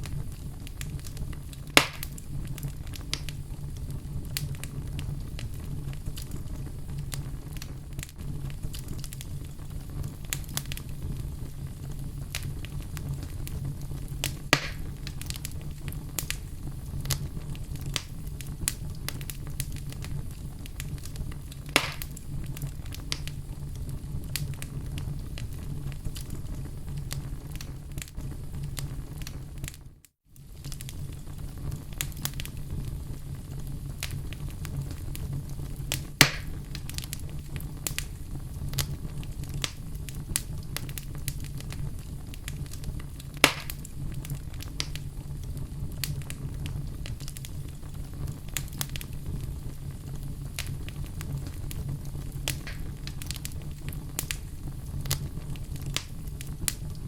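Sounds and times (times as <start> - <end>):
fire crackling in a fireplace: 0.0 - 57.0
sharp fire pops: 0.0 - 57.0.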